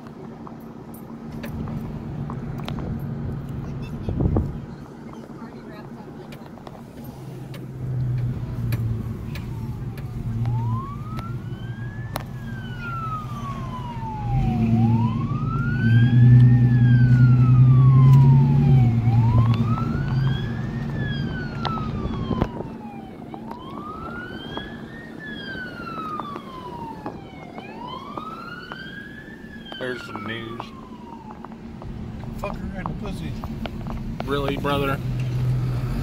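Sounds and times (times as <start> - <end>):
vehicle engine low hum: 0.0 - 36.0
emergency vehicle siren wailing: 4.3 - 36.0.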